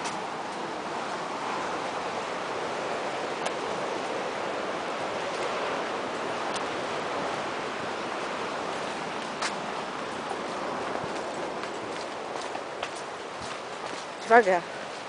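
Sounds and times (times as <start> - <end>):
surf rushing: 0.0 - 15.0.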